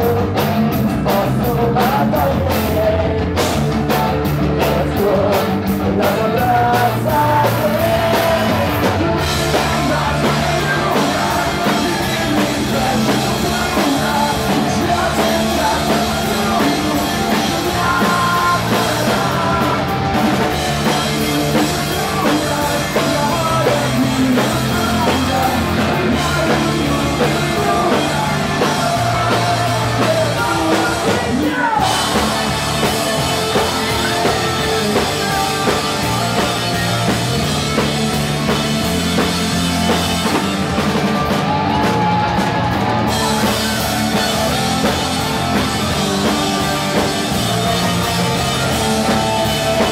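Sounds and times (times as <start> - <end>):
live pop-punk band playing: 0.0 - 49.9.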